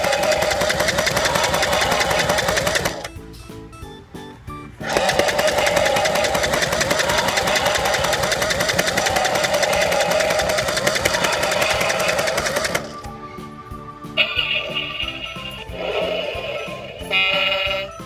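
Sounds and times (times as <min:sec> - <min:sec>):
buzzing electronic toy growl: 0:00.0 - 0:03.1, 0:04.8 - 0:13.0, 0:14.2 - 0:18.0.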